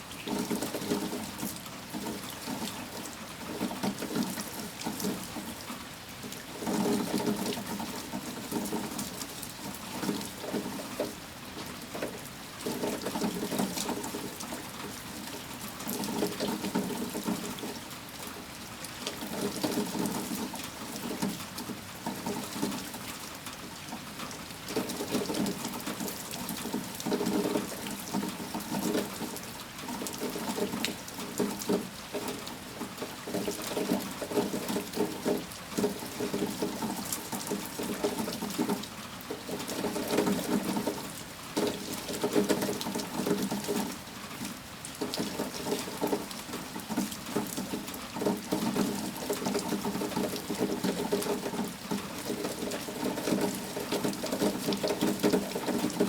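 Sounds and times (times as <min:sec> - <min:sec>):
rain pattering on hard surface: 0:00.0 - 0:56.0.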